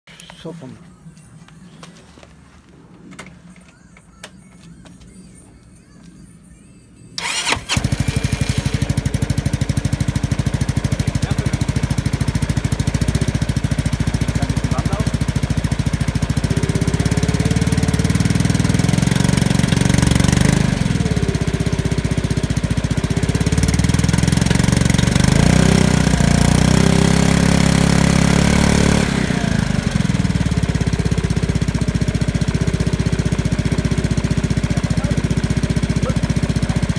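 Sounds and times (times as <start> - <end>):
scooter engine idling and revving: 7.2 - 36.9.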